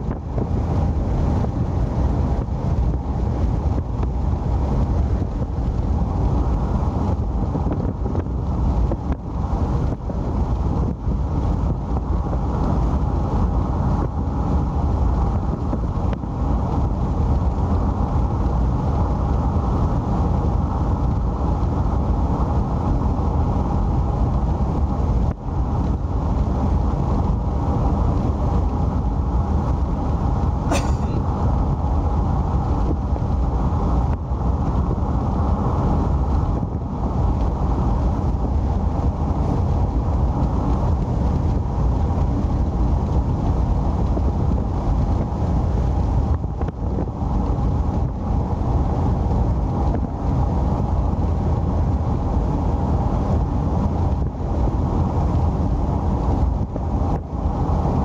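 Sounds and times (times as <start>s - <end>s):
car driving at speed: 0.0s - 58.0s.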